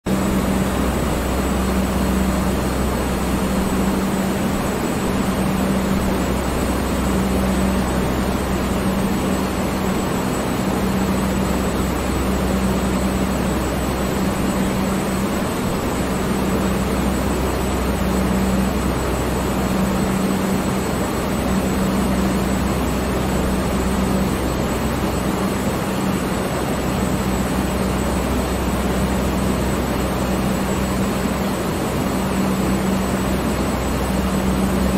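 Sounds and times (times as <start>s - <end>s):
electric fan running: 0.0s - 34.9s.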